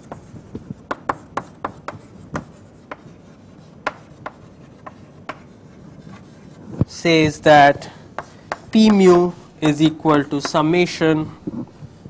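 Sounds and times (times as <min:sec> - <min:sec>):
chalk writing on a blackboard: 0:00.0 - 0:11.0.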